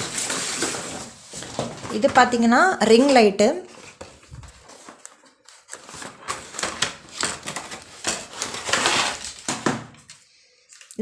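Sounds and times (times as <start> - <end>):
packaging rustling and crinkling: 0.0 - 2.4, 3.6 - 11.0.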